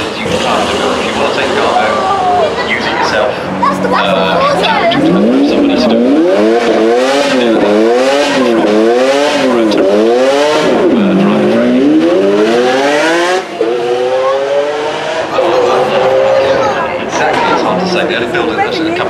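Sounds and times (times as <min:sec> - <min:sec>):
car accelerating: 0:00.0 - 0:19.0
car engine revving: 0:00.0 - 0:19.0.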